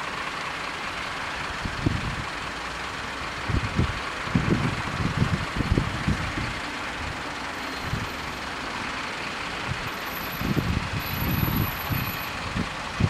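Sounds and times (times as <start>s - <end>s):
vehicles idling: 0.0s - 13.0s.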